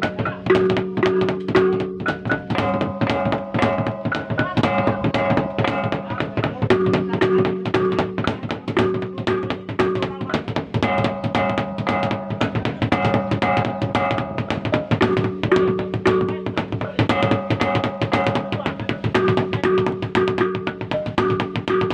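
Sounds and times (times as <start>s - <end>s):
gongs ringing: 0.0s - 10.1s, 10.8s - 21.9s
rapid drum strokes: 0.0s - 21.9s.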